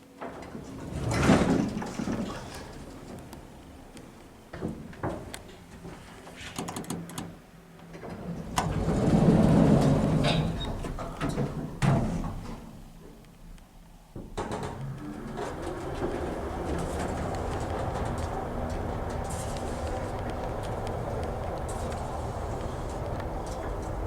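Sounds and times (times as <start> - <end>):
lift doors sliding: 0.2 - 5.3, 7.9 - 13.2, 14.2 - 24.0.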